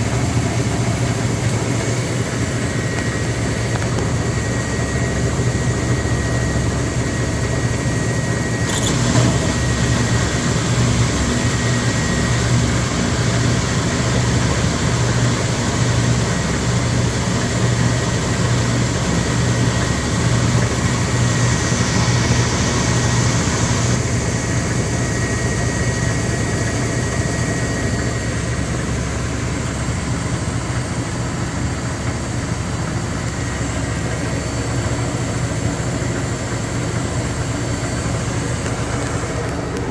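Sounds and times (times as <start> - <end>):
washing machine pulsing hum: 0.0 - 39.9.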